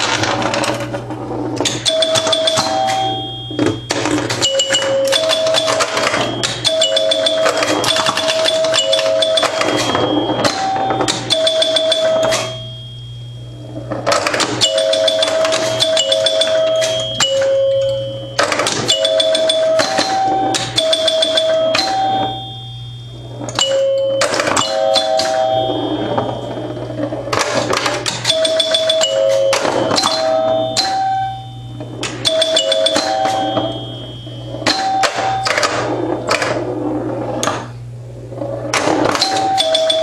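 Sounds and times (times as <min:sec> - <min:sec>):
steady low hum: 0:00.0 - 0:39.9
pinball score chimes: 0:00.0 - 0:40.0.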